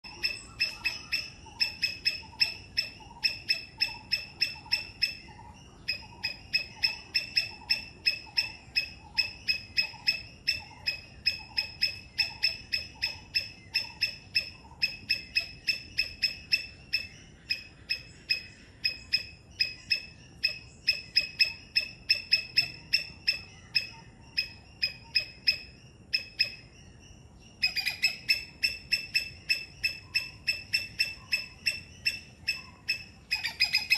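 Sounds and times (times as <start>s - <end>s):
squirrel chirping: 0.0s - 33.9s.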